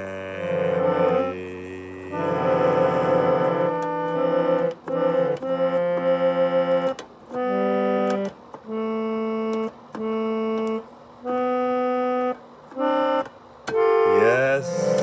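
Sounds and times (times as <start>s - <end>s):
synthesized keyboard chords: 0.0s - 1.3s, 2.1s - 13.2s, 13.8s - 15.0s.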